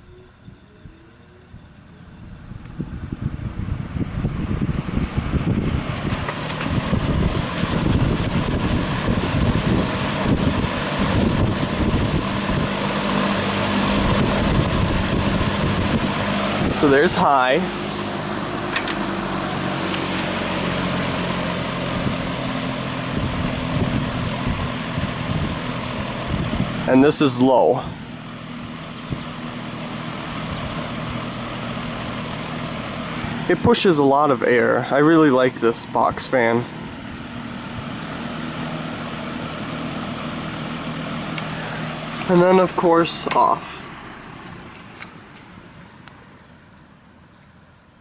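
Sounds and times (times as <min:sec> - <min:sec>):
fan motor hum: 0:00.0 - 0:47.9
box fan air rushing: 0:01.5 - 0:45.6.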